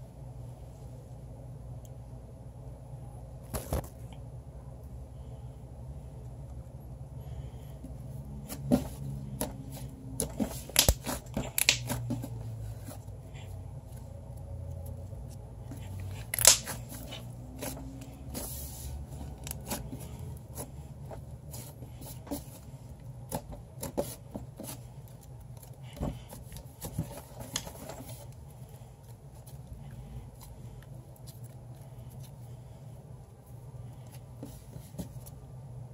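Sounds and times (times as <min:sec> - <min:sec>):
faint low hum: 0:00.0 - 0:35.9.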